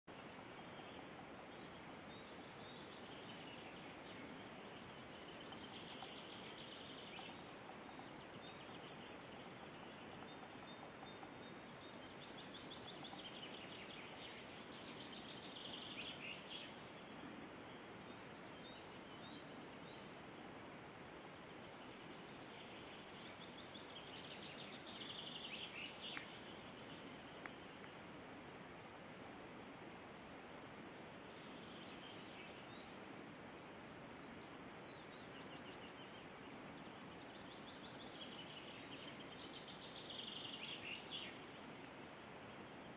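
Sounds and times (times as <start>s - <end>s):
faint outdoor hiss: 0.0s - 42.9s.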